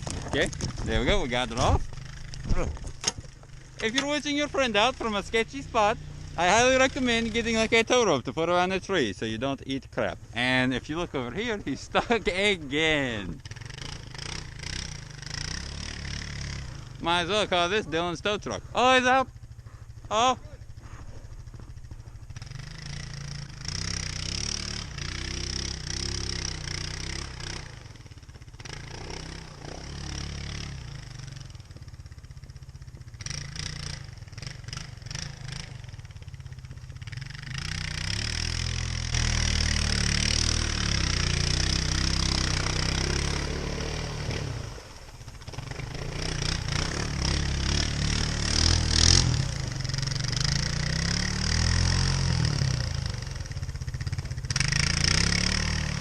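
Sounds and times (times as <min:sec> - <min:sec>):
atv engine revving: 0:00.0 - 0:56.0
vehicle through water and snow: 0:00.0 - 0:56.0.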